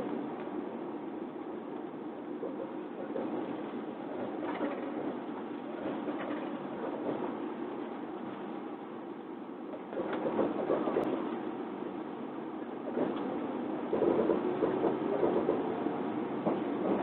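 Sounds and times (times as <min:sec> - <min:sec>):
train running noise from inside: 0:00.0 - 0:17.0.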